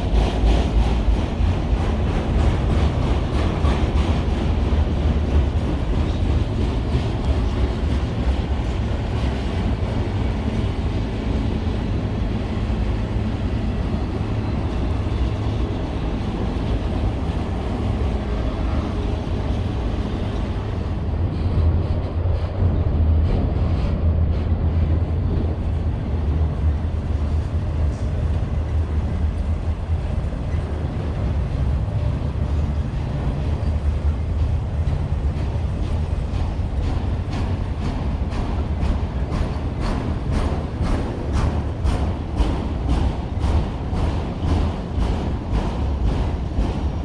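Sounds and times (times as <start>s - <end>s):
freight train rolling past: 0.0s - 47.0s
steel wheels rattling on rails: 0.0s - 47.0s.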